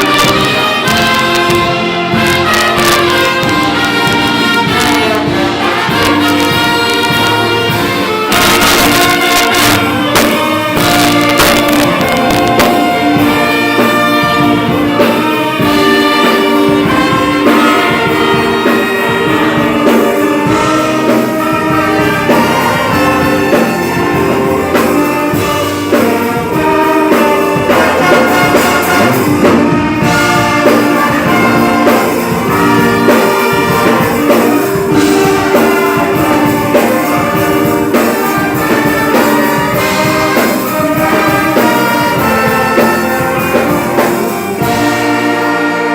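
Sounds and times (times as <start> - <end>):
orchestra playing: 0.0 - 45.9
trumpets and trombones: 0.0 - 45.9.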